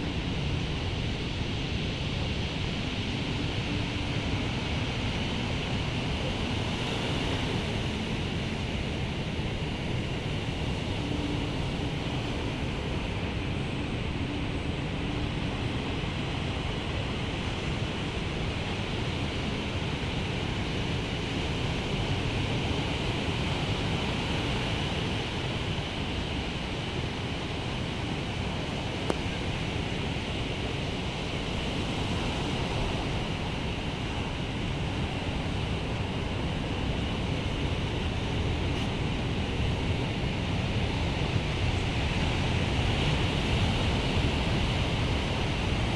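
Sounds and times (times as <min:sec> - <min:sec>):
waves breaking on shore: 0:00.2 - 0:45.9.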